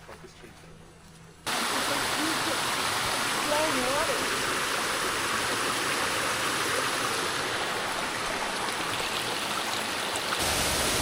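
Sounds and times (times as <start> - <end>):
stream water rushing: 1.5 - 11.0.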